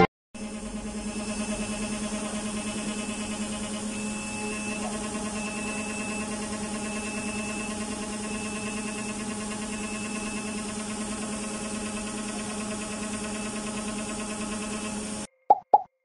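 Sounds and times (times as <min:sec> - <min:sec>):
milling spindle humming: 0:00.4 - 0:15.3.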